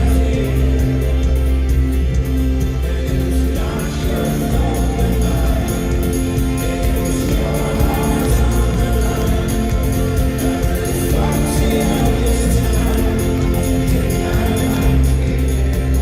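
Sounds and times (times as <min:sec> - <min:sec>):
live folk-rock band: 0:00.0 - 0:16.0
many voices singing: 0:00.0 - 0:16.0.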